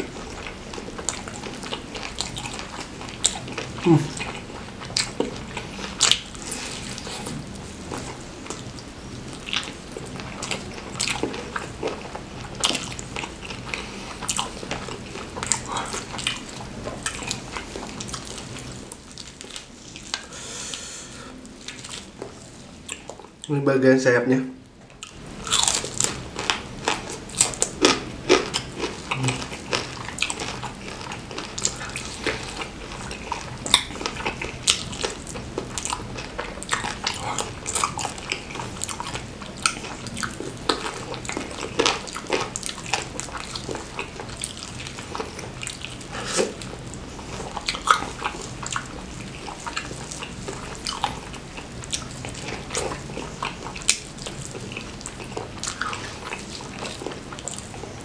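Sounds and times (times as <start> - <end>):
wet chewing and lip-smacking: 0.0 - 20.8, 21.4 - 23.5, 24.8 - 58.0.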